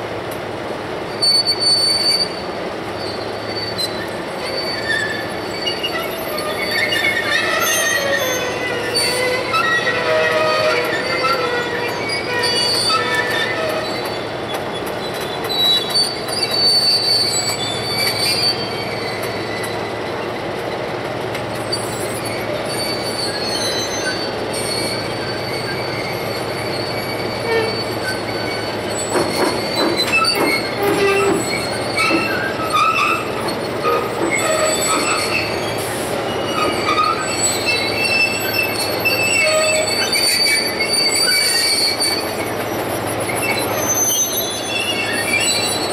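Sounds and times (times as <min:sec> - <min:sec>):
diesel locomotive engine hum: 0:00.0 - 0:45.9
wheels clanking on rails: 0:00.2 - 0:45.9
high brake squeals: 0:01.1 - 0:20.9, 0:21.5 - 0:45.9.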